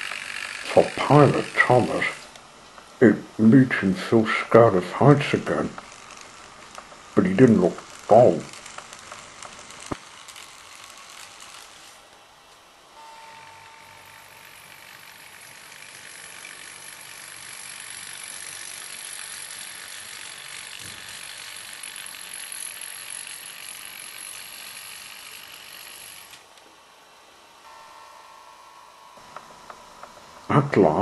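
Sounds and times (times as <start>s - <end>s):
model train motor whirring: 0.0s - 12.2s, 13.0s - 26.7s, 27.6s - 31.0s.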